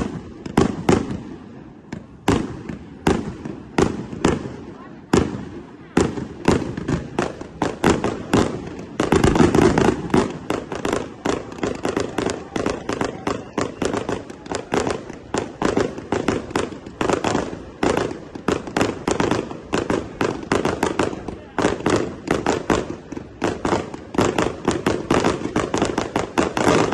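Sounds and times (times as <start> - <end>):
fireworks bangs and crackles: 0.0 - 26.9.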